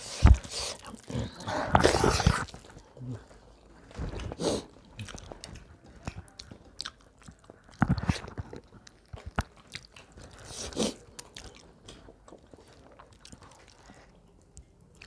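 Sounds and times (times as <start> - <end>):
chewing and crunching food: 0.1 - 15.0.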